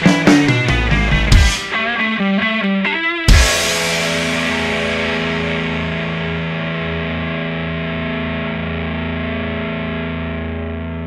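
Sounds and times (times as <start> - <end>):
distorted electric guitar chord: 0.0 - 11.0.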